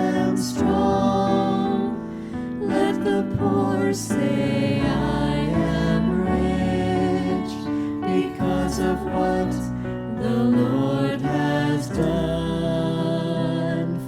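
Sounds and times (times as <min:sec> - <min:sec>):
slow instrumental worship music: 0:00.0 - 0:14.0.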